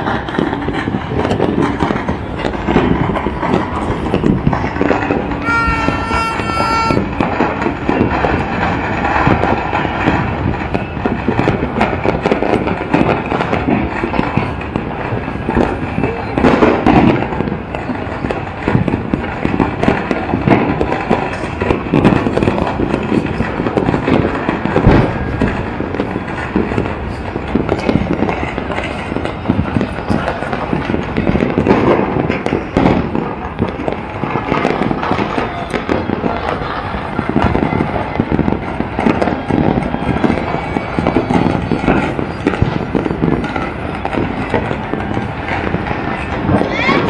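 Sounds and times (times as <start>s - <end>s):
fireworks crackling and popping: 0.0s - 47.0s
heavy firework bangs: 0.0s - 47.0s.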